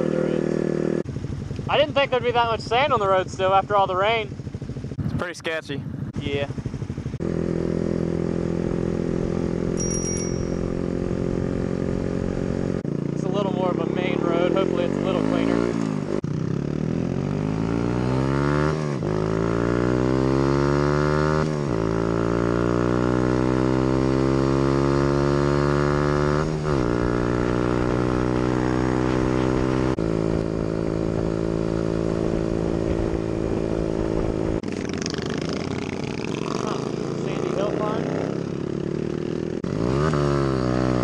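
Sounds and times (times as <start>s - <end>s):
minibike engine accelerating: 0.0s - 41.0s.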